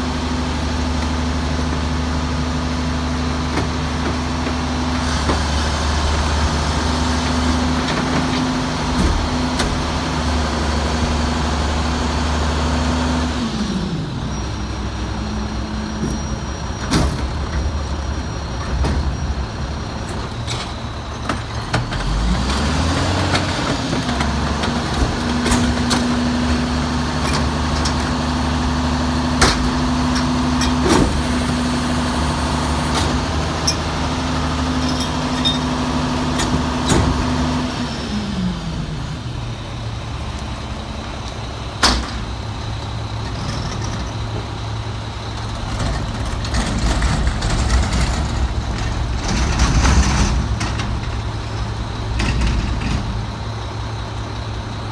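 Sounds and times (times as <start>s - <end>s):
diesel truck engine revving: 0.0s - 54.9s.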